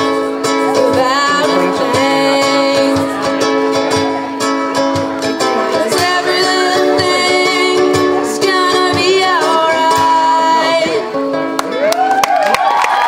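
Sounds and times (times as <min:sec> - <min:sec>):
person singing: 0:00.0 - 0:04.4, 0:05.4 - 0:11.9
ukulele strumming: 0:00.0 - 0:12.2.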